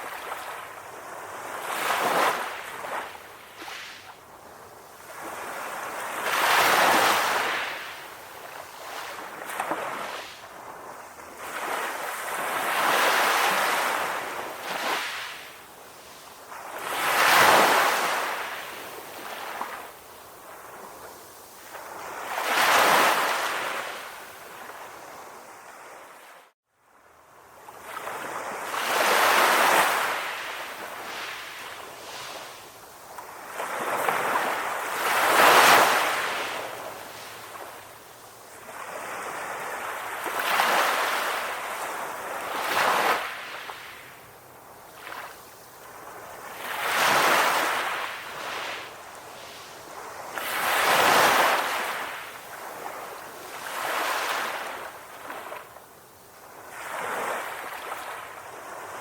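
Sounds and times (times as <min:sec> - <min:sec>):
calm ocean waves: 0:00.0 - 0:59.0.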